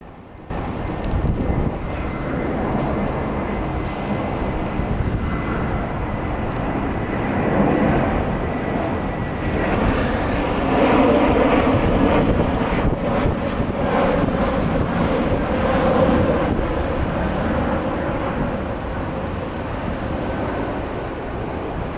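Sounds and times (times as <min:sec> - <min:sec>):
gusting wind on microphone: 0:00.0 - 0:21.9.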